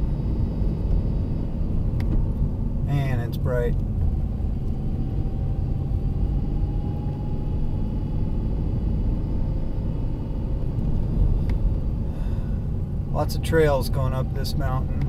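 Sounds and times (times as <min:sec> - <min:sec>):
car engine and tyres rumbling: 0:00.0 - 0:15.0
faint rising whine: 0:00.0 - 0:15.0.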